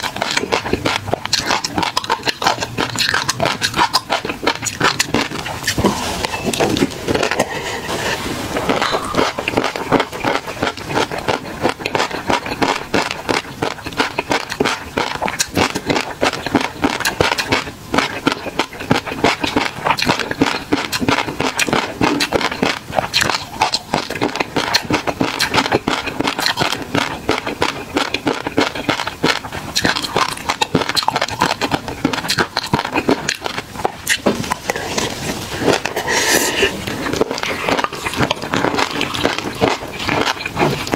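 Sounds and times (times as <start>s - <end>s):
chewing with wet mouth sounds: 0.0s - 40.9s.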